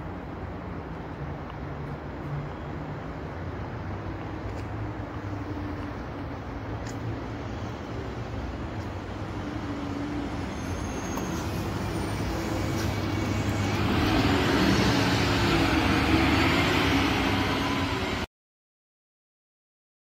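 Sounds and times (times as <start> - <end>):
bus driving past: 0.0 - 18.3.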